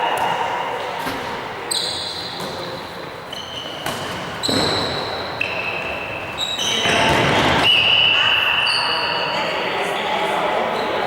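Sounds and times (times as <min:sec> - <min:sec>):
shoes squeaking on hall floor: 0:00.0 - 0:11.0.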